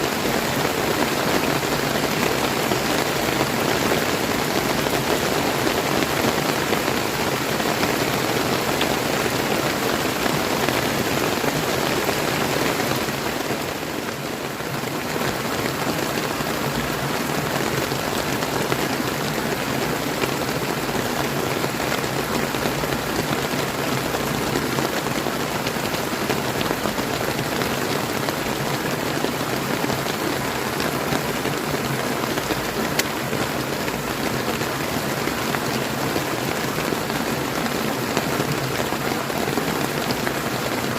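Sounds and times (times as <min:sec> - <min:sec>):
river running water: 0:00.0 - 0:40.9
steady rain: 0:00.0 - 0:40.9.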